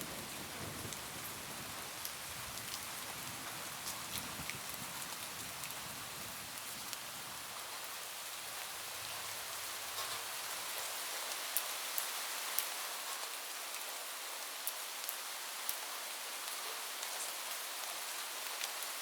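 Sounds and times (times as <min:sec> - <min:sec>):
heavy rain on a roof: 0:00.0 - 0:19.0.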